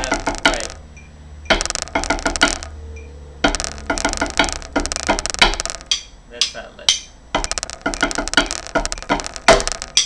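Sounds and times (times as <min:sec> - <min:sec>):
metronome clicking: 0:00.0 - 0:00.8, 0:01.5 - 0:02.7, 0:03.4 - 0:10.0
drumsticks striking practice pads: 0:00.0 - 0:00.9, 0:01.5 - 0:02.8, 0:03.4 - 0:10.0.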